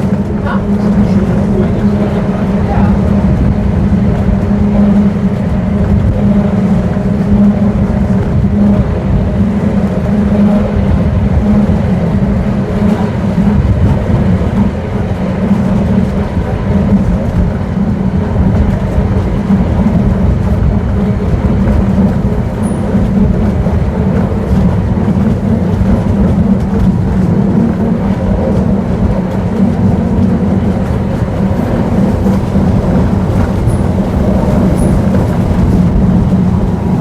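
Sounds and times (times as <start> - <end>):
tram hum: 0.0 - 37.0
tram rumbling on track: 0.0 - 37.0.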